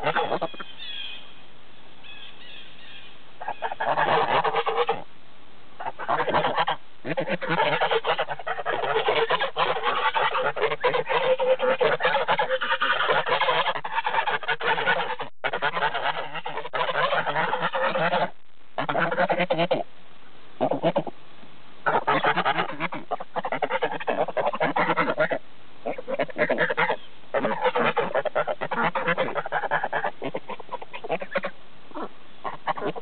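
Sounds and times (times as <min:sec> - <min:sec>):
geese honking: 0:00.0 - 0:01.2, 0:02.0 - 0:05.0, 0:05.8 - 0:19.8, 0:20.6 - 0:21.1, 0:21.8 - 0:33.0.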